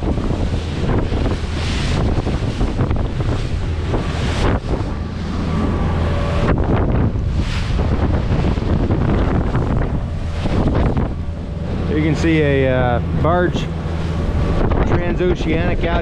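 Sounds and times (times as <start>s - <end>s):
spray and choppy waves on hull: 0.0s - 16.0s
wind buffeting microphone: 0.0s - 16.0s.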